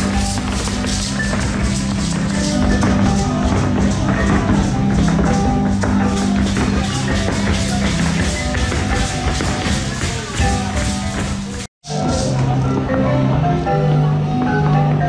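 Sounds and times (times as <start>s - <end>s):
lively folk-dance music: 0.0s - 15.0s.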